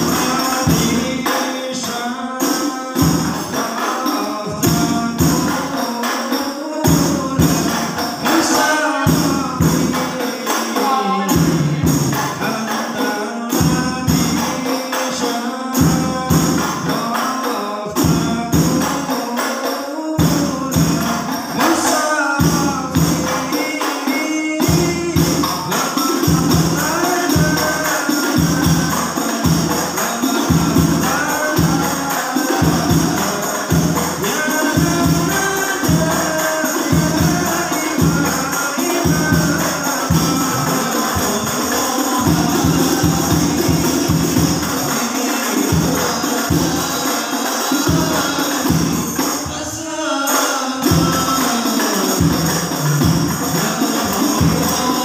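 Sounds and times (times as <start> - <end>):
frame drums and bass drum: 0.0 - 1.8, 2.6 - 6.0, 6.7 - 17.1, 17.9 - 19.4, 20.2 - 49.8, 50.8 - 55.0
men singing into a microphone: 0.0 - 55.0.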